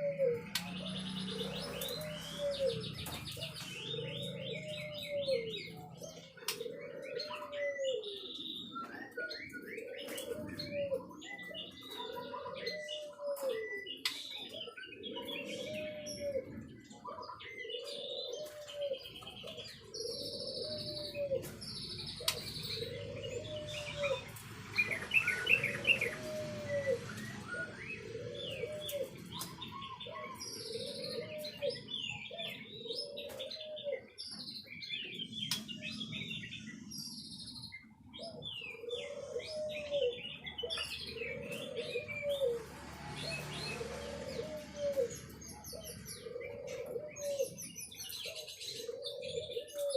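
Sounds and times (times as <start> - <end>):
low cooing call: 0.0 - 49.9.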